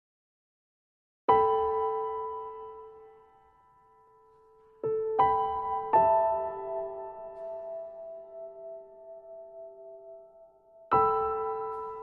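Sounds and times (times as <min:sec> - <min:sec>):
piano notes: 0:01.3 - 0:12.0.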